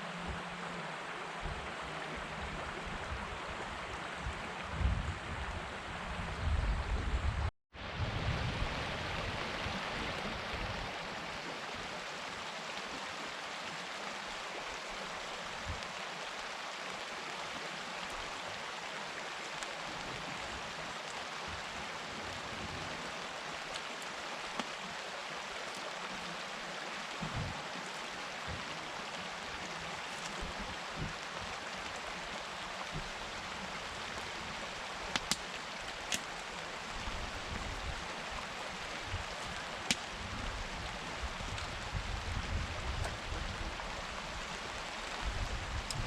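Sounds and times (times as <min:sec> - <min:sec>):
river rushing: 0:00.0 - 0:06.9, 0:07.8 - 0:46.0.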